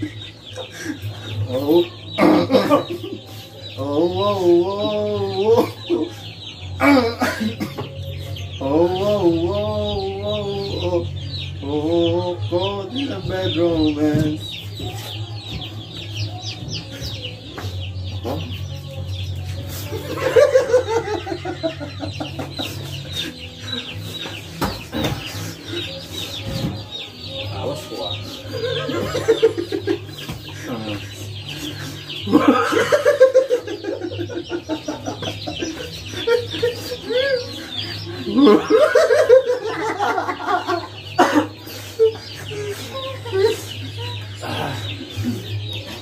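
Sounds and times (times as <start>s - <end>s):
chicken-like clucking: 0.0s - 46.0s.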